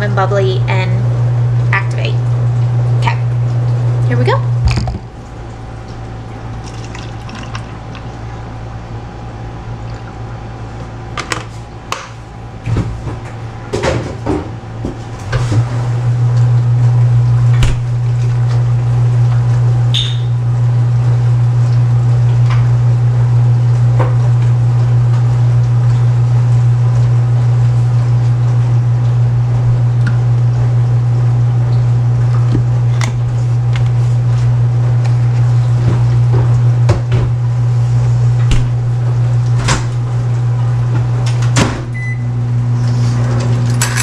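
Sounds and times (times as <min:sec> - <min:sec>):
microwave oven humming: 0:00.0 - 0:44.0.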